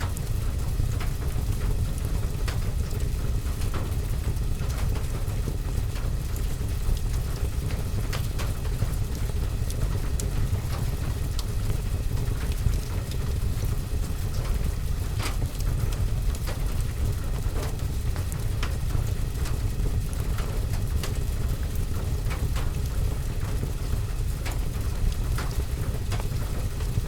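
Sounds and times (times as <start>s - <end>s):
steady rain: 0.0s - 27.0s
log fire crackling: 2.1s - 27.0s.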